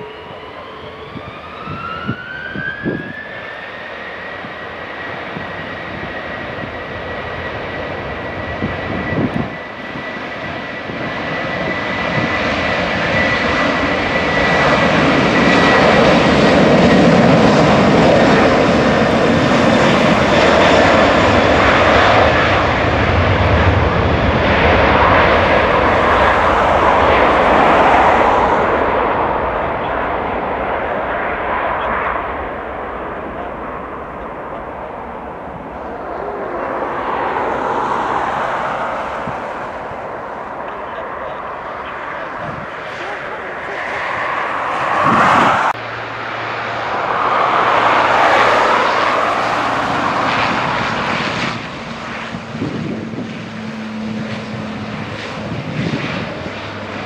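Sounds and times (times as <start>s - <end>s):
jet engine roar: 0.0s - 57.0s
jet engine whine: 0.0s - 57.0s.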